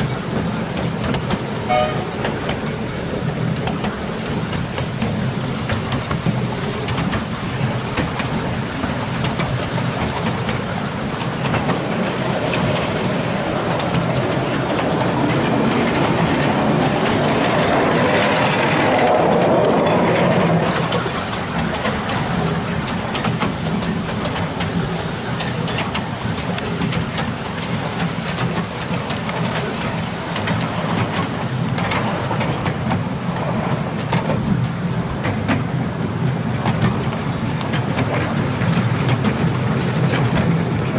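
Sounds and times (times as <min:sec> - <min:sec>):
locomotive engine running: 0:00.0 - 0:40.9
wheels clicking on track: 0:00.0 - 0:40.9.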